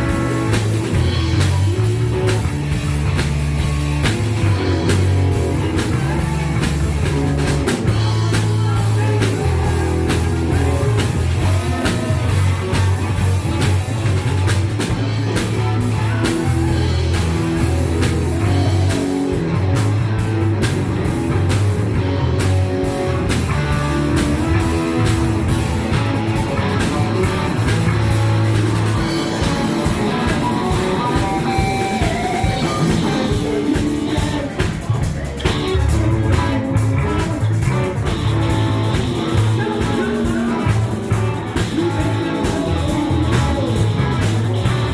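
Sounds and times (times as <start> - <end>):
drum kit: 0.0 - 44.9
electric guitar: 0.0 - 44.9
low bass notes: 0.0 - 44.9.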